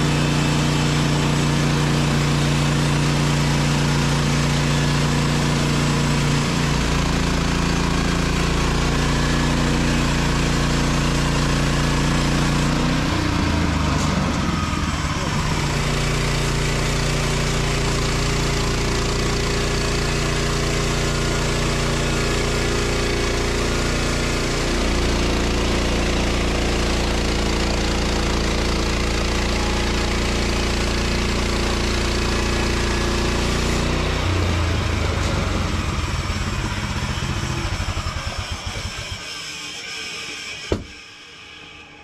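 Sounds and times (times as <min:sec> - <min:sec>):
sawmill engine running: 0:00.0 - 0:42.0.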